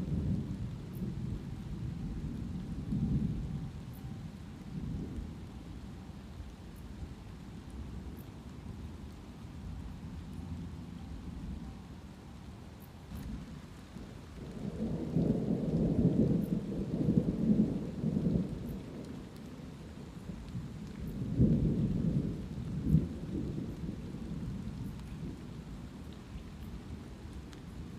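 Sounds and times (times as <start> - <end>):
light rain: 0.0 - 27.9
thunder rumbling: 0.0 - 27.9.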